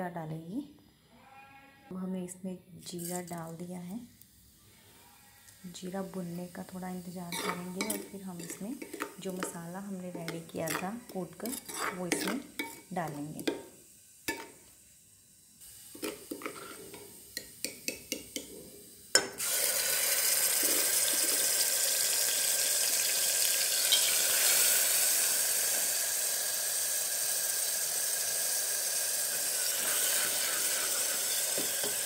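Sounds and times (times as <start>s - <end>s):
paste sizzling in hot oil: 2.9s - 32.0s.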